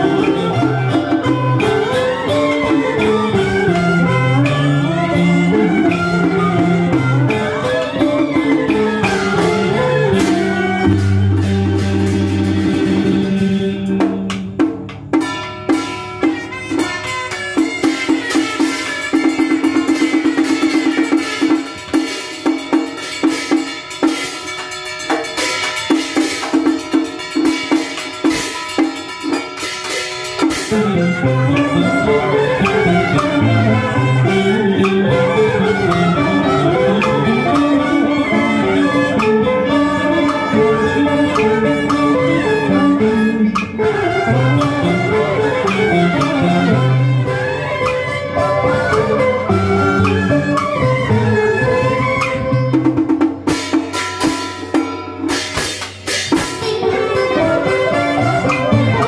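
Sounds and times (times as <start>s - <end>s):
drum and percussion strokes: 0.0s - 59.0s
string instruments: 0.0s - 59.0s.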